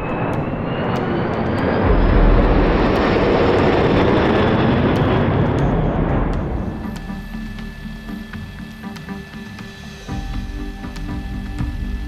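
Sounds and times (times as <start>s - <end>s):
aircraft engine roar: 0.0s - 12.0s
faint rising whine: 0.0s - 12.0s.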